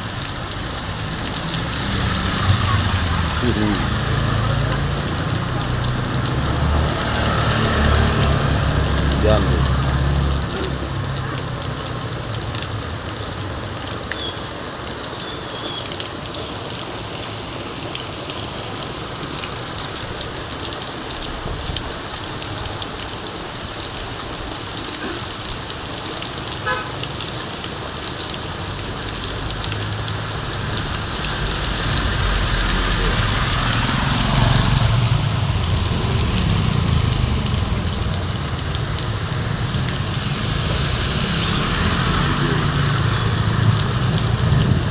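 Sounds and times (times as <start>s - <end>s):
heavy rain falling: 0.0s - 44.9s
vehicle engine on wet road: 0.0s - 44.9s.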